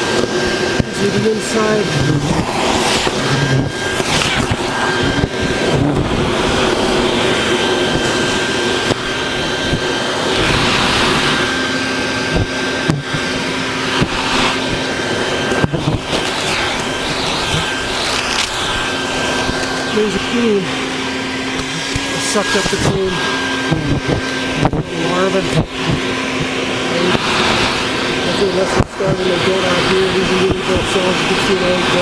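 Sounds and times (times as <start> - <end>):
vacuum cleaner whining: 0.0 - 32.0.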